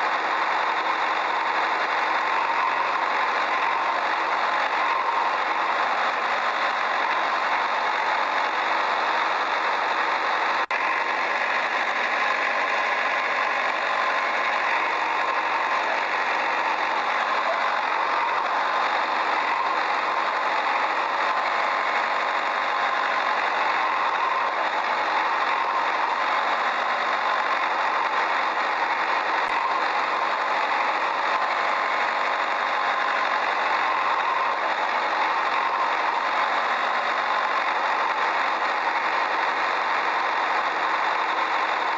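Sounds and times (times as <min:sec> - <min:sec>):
steady engine-like running noise: 0:00.0 - 0:41.9.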